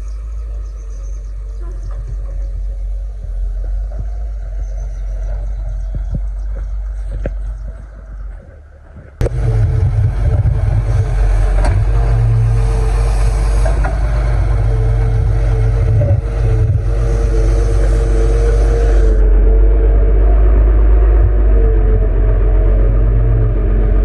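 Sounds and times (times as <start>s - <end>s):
close engine humming: 0.0s - 24.0s
diesel engine low rumble: 0.0s - 24.0s.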